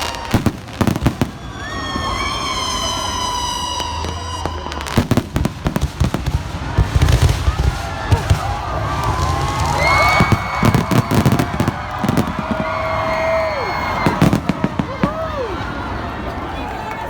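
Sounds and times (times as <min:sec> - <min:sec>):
firework whistling: 0:00.0 - 0:15.9
firework bangs: 0:00.0 - 0:16.8
firework crackling: 0:00.0 - 0:16.8.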